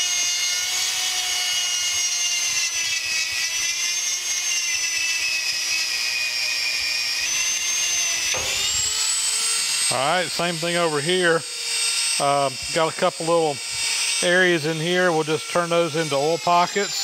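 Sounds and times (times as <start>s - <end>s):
rotary tool grinding whine: 0.0s - 17.0s.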